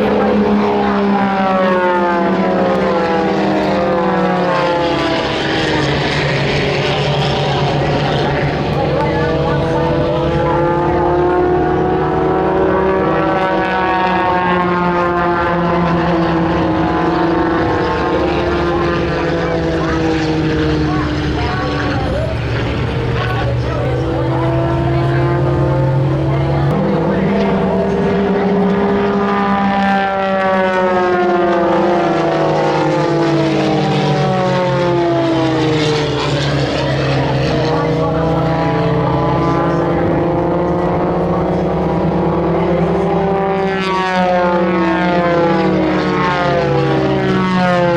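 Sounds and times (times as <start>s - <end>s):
propeller airplane engine: 0.0s - 47.9s
rushing background noise: 0.0s - 47.9s.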